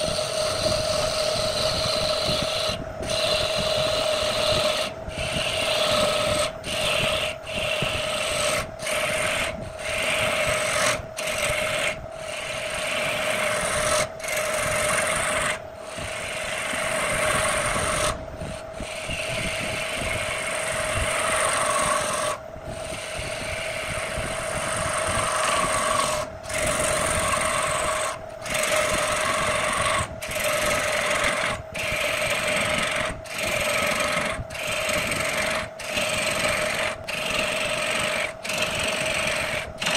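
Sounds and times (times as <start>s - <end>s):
lathe humming: 0.0s - 39.9s
turning tool scraping wood: 0.0s - 39.9s.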